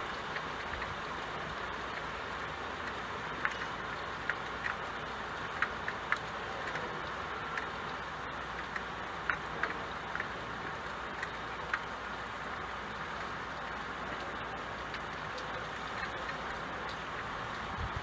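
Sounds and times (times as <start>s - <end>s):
single raindrop ticks: 0.0s - 18.0s
steady rain hiss: 0.0s - 18.0s.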